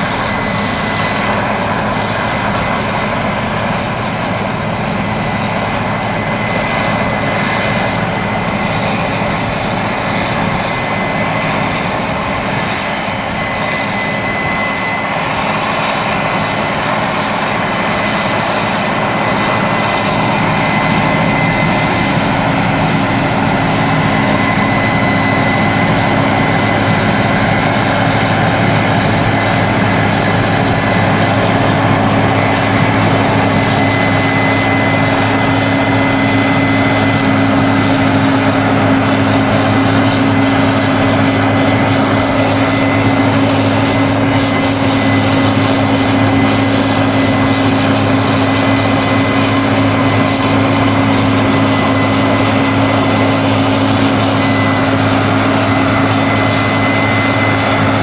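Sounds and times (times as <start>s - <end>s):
combine harvester engine drone: 0.0s - 58.0s
thin high whine: 0.0s - 58.0s.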